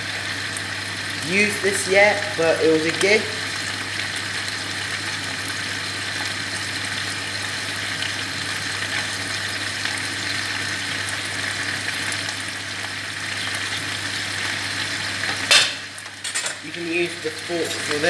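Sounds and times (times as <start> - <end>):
cabbage sizzling in frying pan: 0.0 - 18.0.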